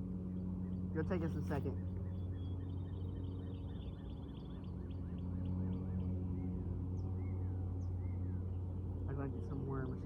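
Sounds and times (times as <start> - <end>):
songbirds singing: 0.0 - 10.0
steady low hum: 0.0 - 10.0.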